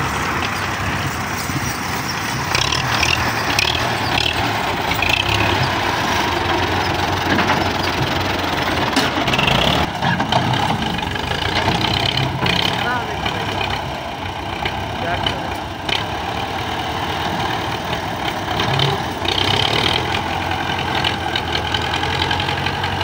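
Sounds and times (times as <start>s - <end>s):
tractor engines droning: 0.0s - 23.0s.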